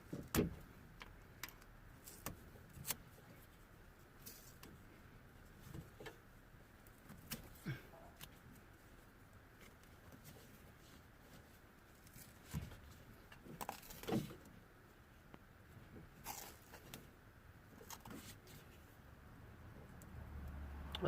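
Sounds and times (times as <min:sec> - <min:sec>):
light clicks and rustles: 0:00.0 - 0:17.1.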